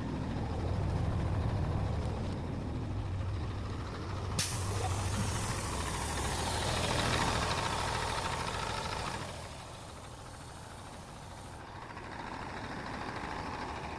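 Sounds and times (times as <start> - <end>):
truck diesel engine running: 0.0 - 13.9.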